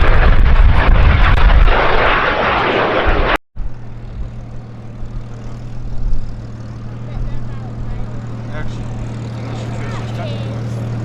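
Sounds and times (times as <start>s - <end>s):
jets passing: 0.0s - 11.0s
low engine hum: 0.0s - 11.0s.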